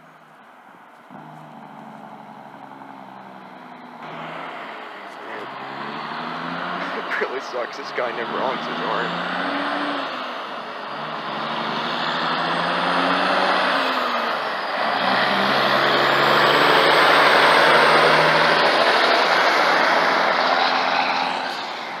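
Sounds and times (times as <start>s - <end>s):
diesel truck engines: 0.0s - 22.0s
tyre and road noise: 0.0s - 22.0s.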